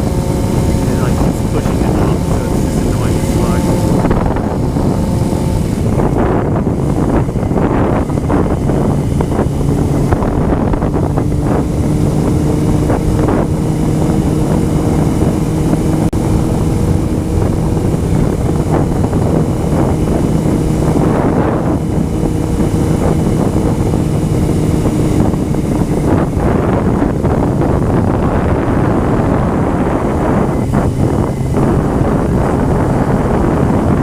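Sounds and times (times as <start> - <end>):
motorcycle engine cruising: 0.0 - 34.0
wind noise on microphone: 0.0 - 34.0.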